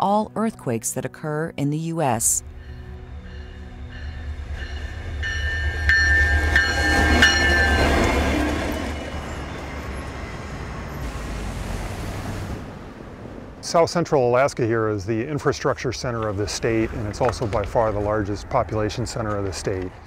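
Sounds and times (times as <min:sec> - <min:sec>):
diesel locomotive engine rumble: 0:02.4 - 0:20.0
street traffic: 0:02.4 - 0:20.0.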